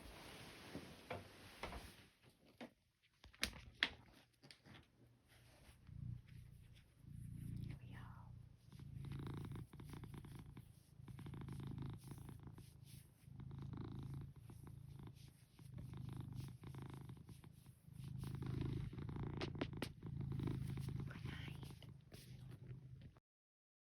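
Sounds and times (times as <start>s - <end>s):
cat purring: 3.6s - 23.2s.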